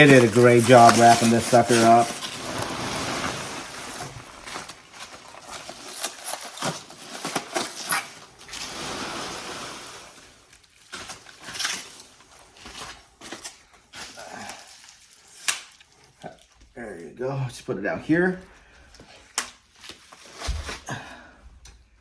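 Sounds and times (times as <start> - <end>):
plastic wrapping rustling: 0.0 - 17.2, 18.9 - 21.0.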